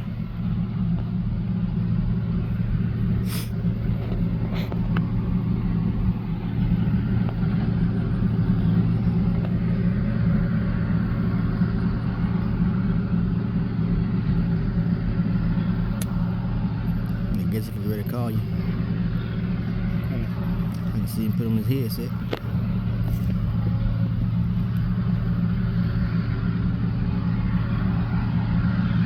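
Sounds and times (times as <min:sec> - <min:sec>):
heavy machinery engine droning: 0:00.0 - 0:29.0.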